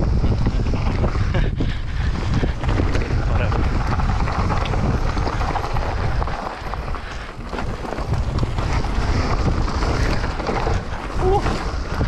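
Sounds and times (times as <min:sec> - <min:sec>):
bike and stones rattling: 0:00.0 - 0:12.0
bike tyres rolling over gravel: 0:00.0 - 0:12.0
wind buffeting microphone: 0:00.0 - 0:12.0.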